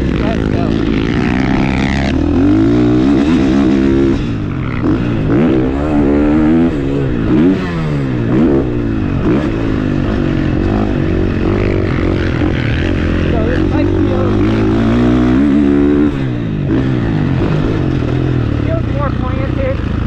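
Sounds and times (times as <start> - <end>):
motocross engine revving: 0.0 - 20.0.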